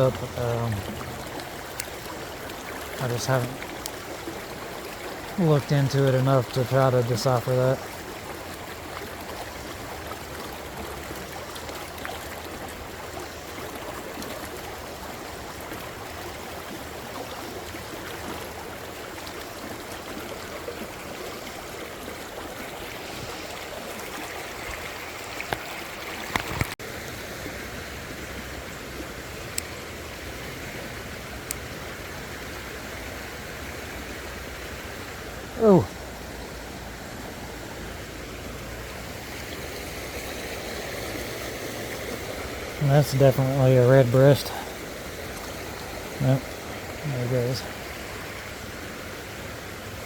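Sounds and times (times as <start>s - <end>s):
creek water running over rocks: 0.0s - 50.0s.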